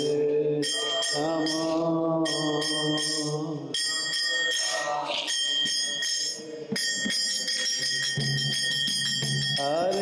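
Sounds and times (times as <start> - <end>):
hand cymbals struck in a beat: 0.0 - 10.0.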